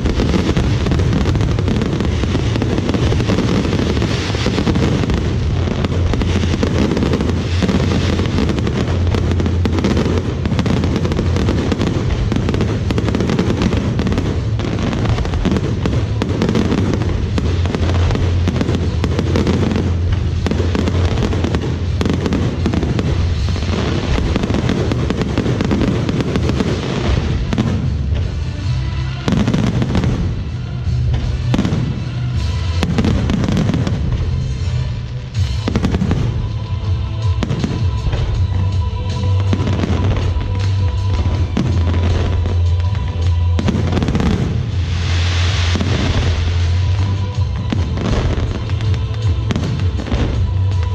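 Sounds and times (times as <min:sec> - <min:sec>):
fireworks bangs and crackles: 0:00.0 - 0:50.9
low rumble: 0:00.0 - 0:50.9.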